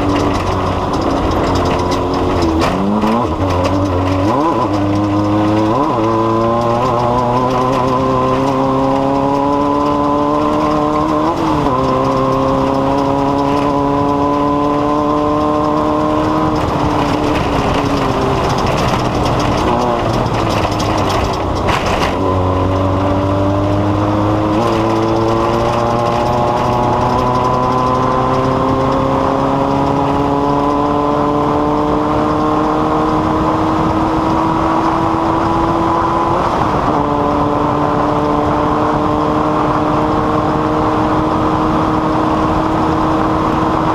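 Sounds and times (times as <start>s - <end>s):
rough road noise: 0.0s - 43.9s
vehicle engine running under load: 0.0s - 43.9s
wind noise: 0.0s - 43.9s.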